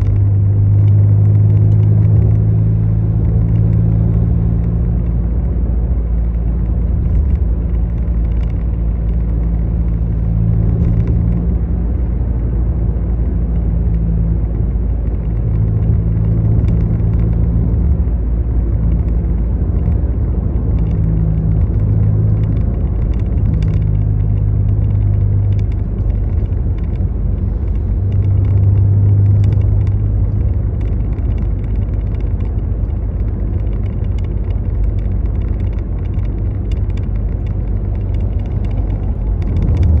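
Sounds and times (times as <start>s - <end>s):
road vehicle rumble: 0.0s - 40.0s.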